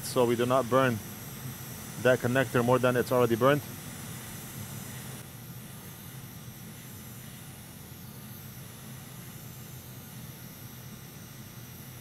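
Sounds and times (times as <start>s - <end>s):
hot air station hissing: 0.0s - 12.0s.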